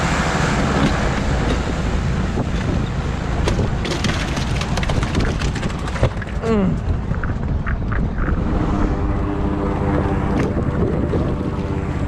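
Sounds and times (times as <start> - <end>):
boat motor humming: 0.0 - 12.0
wind noise on microphone: 0.0 - 12.0.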